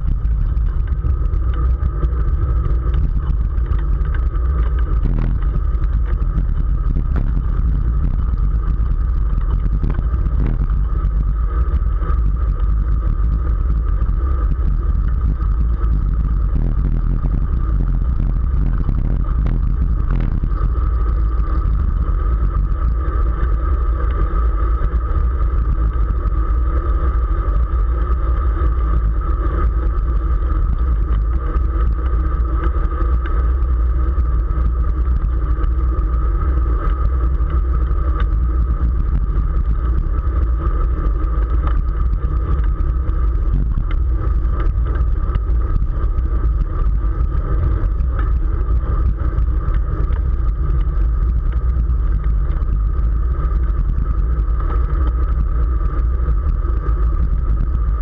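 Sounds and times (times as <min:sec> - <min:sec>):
constant hum: 0:00.0 - 0:58.0
wind buffeting microphone: 0:00.0 - 0:58.0.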